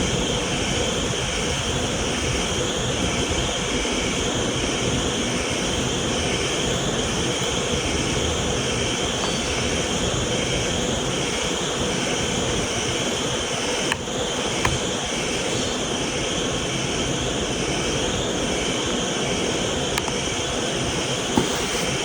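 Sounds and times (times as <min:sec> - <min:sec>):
vacuum cleaner motor running: 0:03.1 - 0:22.0.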